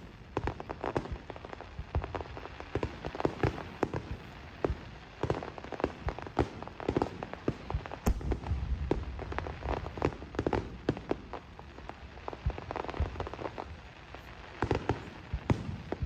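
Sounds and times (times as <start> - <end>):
firework bangs: 0.0 - 16.0
firework pops and crackles: 0.0 - 16.0
steady hiss: 0.0 - 16.0.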